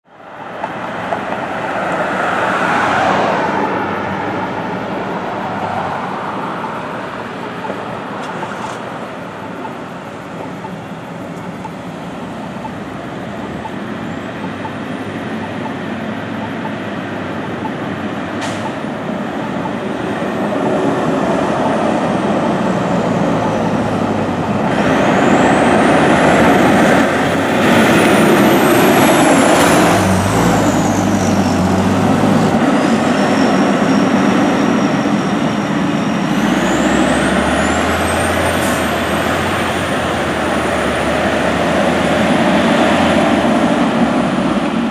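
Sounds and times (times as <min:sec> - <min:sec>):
engine and road noise: 0:00.0 - 0:44.9.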